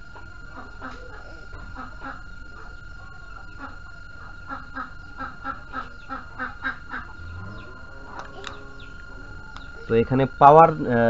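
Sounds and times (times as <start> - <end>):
fowl calling: 0.0 - 10.3.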